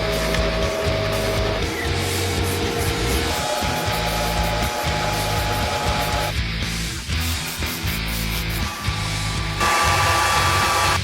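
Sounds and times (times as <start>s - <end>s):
background music with held notes: 0.0s - 11.0s
bass line: 0.0s - 11.0s.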